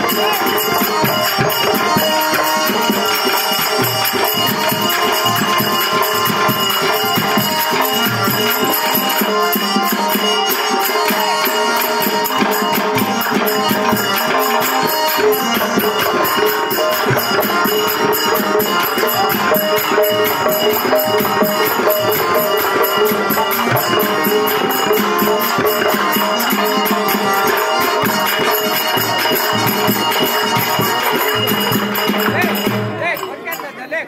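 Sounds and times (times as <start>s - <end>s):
fast jingling percussion: 0.0s - 34.0s.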